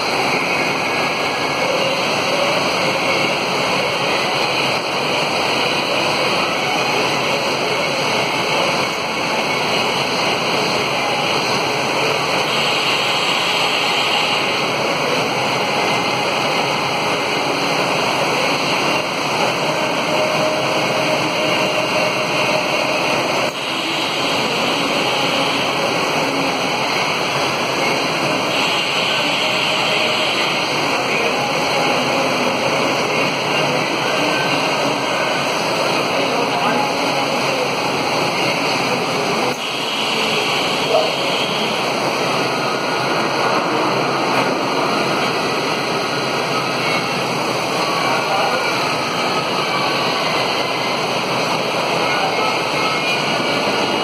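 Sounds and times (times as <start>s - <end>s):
machinery running: 0.0s - 54.0s.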